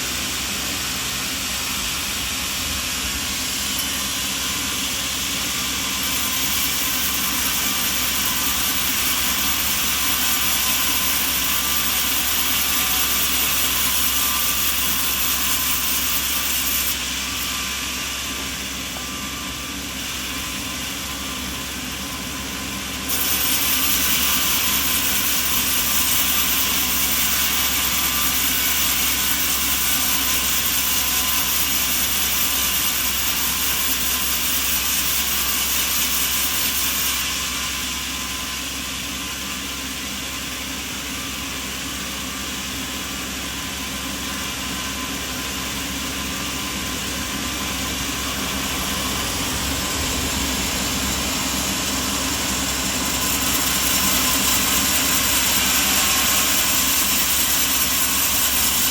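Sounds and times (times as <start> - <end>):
sawmill machinery hissing and humming: 0.0 - 58.9.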